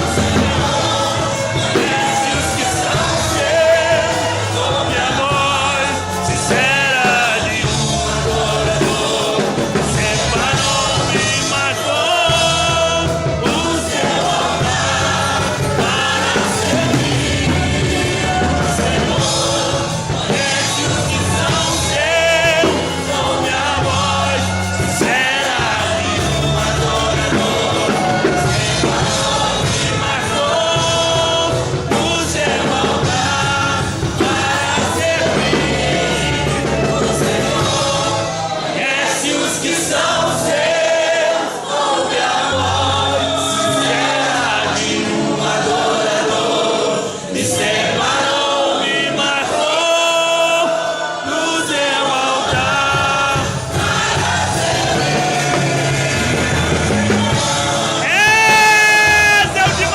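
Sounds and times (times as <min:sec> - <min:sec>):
full band playing: 0:00.0 - 0:59.9
group singing: 0:00.0 - 0:59.9
lead vocal singing: 0:00.0 - 0:59.9.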